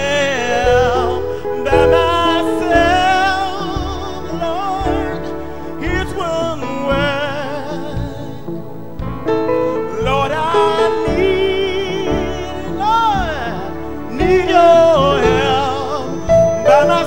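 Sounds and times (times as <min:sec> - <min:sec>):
gospel singing voice: 0:00.0 - 0:17.0
instrumental accompaniment: 0:00.0 - 0:17.0.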